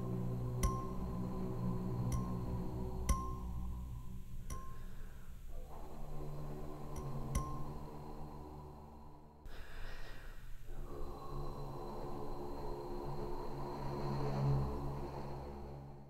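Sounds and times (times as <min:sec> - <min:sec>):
breathy flute over low drone: 0:00.0 - 0:16.0.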